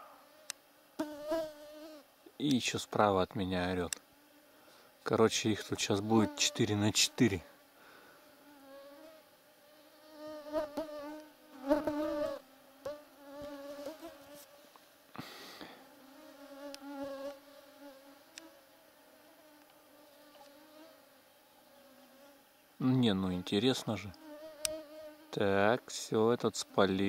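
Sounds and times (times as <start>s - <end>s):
flying insect buzzing: 0.0s - 2.1s, 4.0s - 5.1s, 6.0s - 25.5s.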